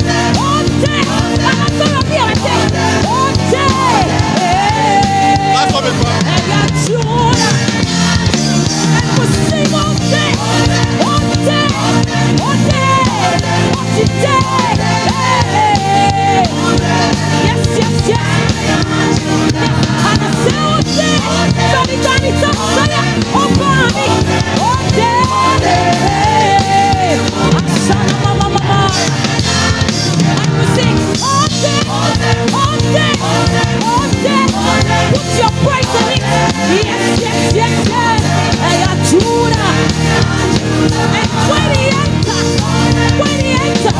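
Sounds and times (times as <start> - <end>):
band playing upbeat song: 0.0 - 43.9
bass guitar: 0.0 - 43.9
drums: 0.0 - 43.9.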